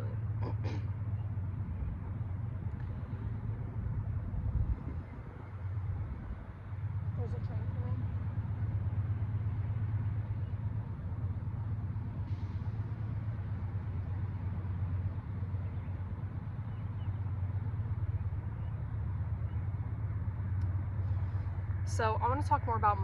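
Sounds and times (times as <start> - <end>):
low rumble of vehicle noise: 0.0 - 23.0.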